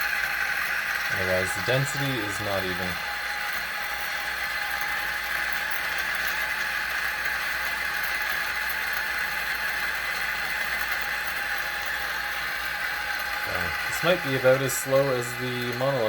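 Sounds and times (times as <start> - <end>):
coffee grinder whirring: 0.0 - 16.0.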